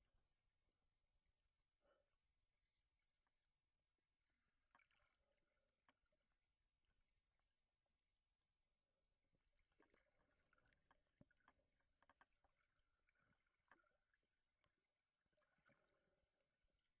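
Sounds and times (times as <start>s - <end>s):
faint underwater clicks and crackles: 0.0s - 17.0s.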